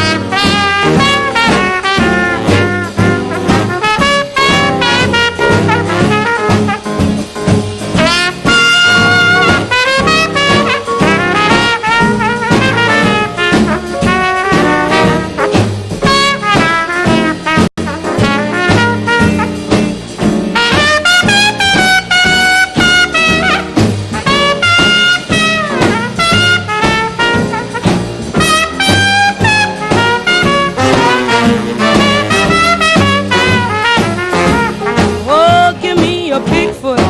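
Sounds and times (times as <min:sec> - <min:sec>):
swing jazz band playing: 0:00.0 - 0:37.0.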